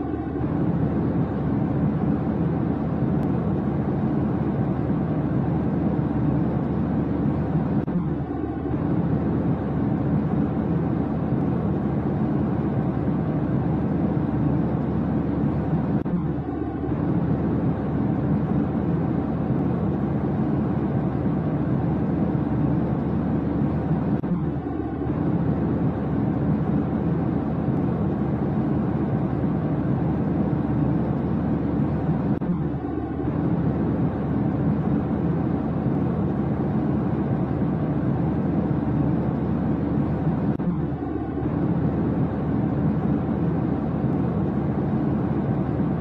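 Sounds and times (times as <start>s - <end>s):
airliner cabin drone: 0.0s - 46.0s.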